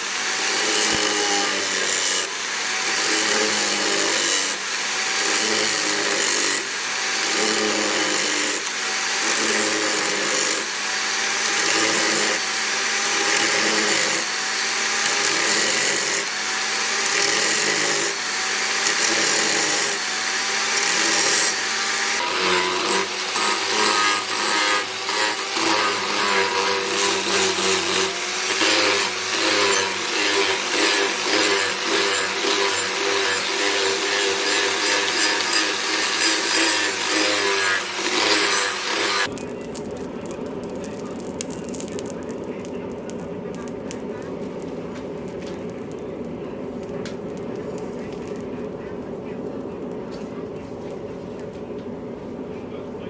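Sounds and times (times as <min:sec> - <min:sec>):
power tool grinding steel: 0:00.0 - 0:48.6.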